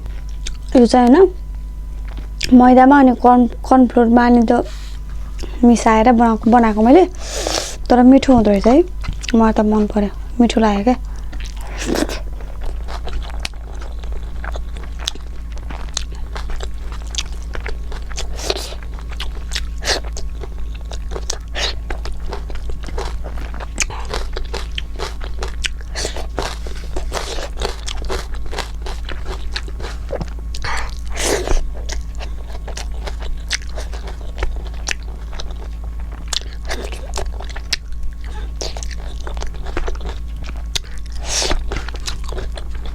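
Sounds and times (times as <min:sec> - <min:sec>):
person chewing crunchy food: 0:00.0 - 0:00.8, 0:01.4 - 0:02.7, 0:04.5 - 0:42.9
steady low hum: 0:00.0 - 0:42.9.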